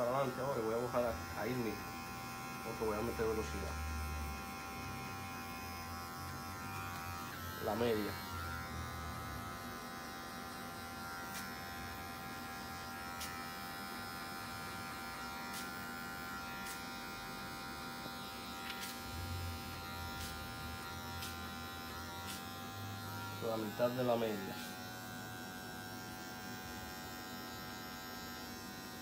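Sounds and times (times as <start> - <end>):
electric hair clippers buzzing: 0.0 - 29.0.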